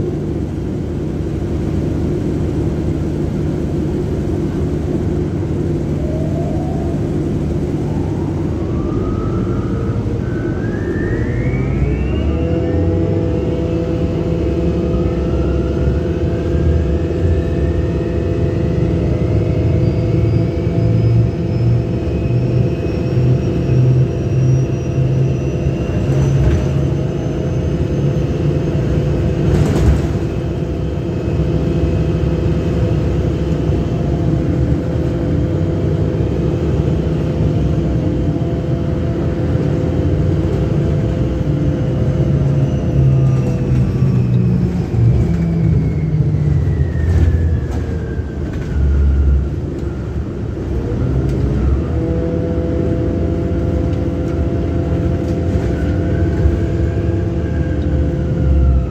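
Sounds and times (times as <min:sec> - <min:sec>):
bus engine drone: 0:00.0 - 0:58.9
high motor whines: 0:00.0 - 0:58.9.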